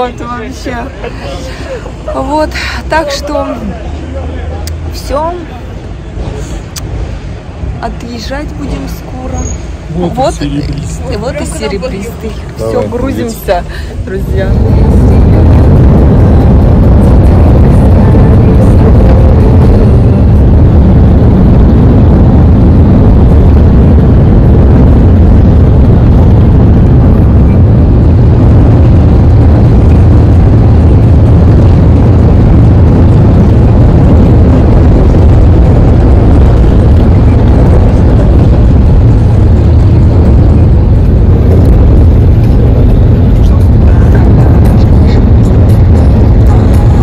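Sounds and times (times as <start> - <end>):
vehicle engine and road noise: 0.0 - 47.0.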